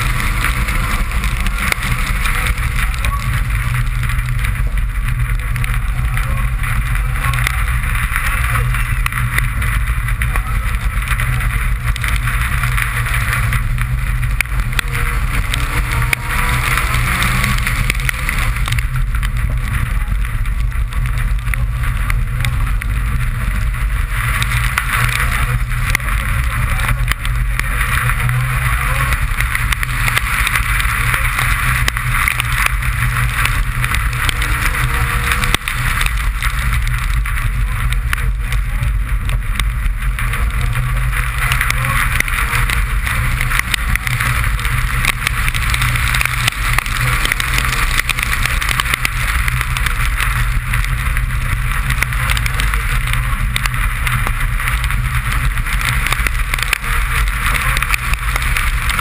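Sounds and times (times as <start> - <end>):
car engine running hard: 0.0 - 59.0
tyres hissing on wet road: 0.0 - 59.0.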